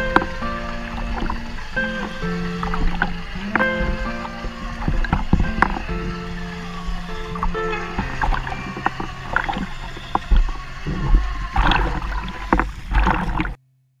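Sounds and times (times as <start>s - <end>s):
boat low hum: 0.0s - 13.6s
water slapping and splashing: 0.0s - 13.6s.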